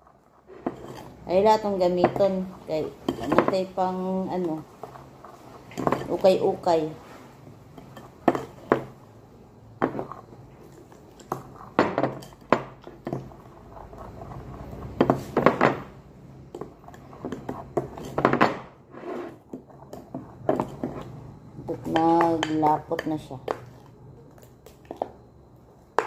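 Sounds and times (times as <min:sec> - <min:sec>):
utensil stirring batter in glass bowl: 0:00.0 - 0:09.1, 0:09.8 - 0:25.2.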